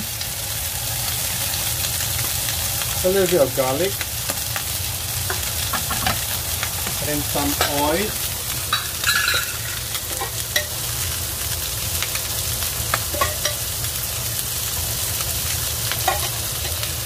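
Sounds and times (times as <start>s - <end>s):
meat and onion sizzling in a frying pan: 0.0s - 17.0s.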